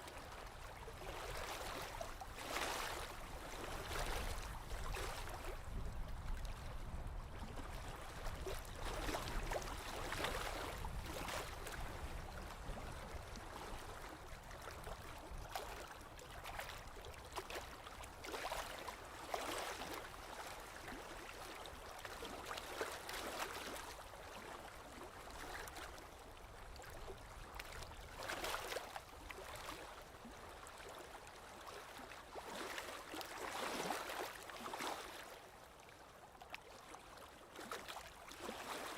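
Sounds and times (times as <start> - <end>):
lake water lapping on shore: 0.1 - 38.9.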